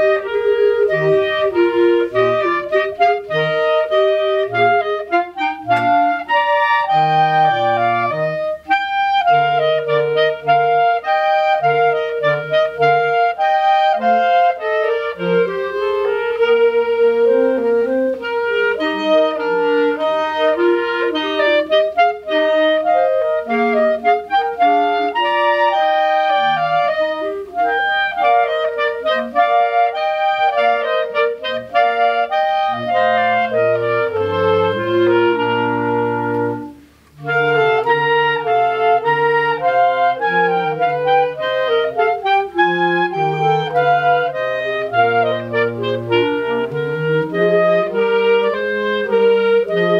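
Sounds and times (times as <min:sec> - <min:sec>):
bass clarinet low notes: 0:00.0 - 0:49.9
clarinet ensemble playing: 0:00.0 - 0:49.9.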